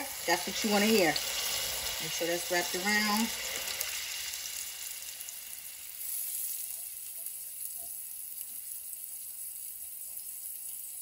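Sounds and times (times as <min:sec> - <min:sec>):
meat sizzling in a hot pan: 0:00.0 - 0:11.0.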